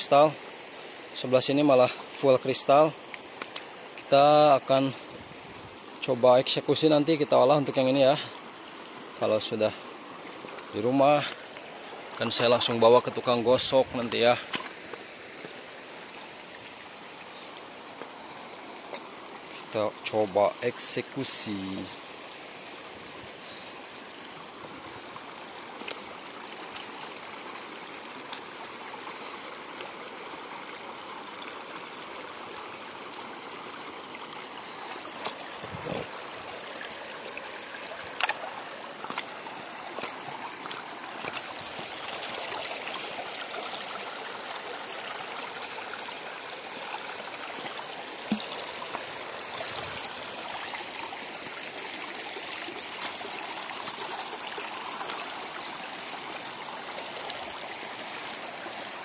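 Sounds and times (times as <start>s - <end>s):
river water trickling over stones: 0.0s - 59.0s.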